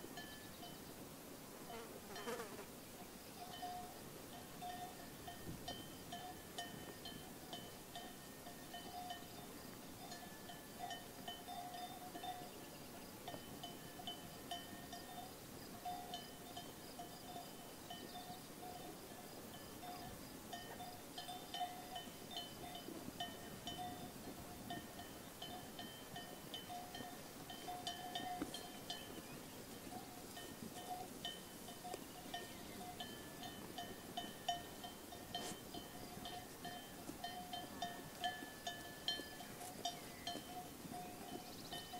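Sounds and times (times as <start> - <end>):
sheep bells clinking: 0.0 - 0.9, 3.0 - 41.9.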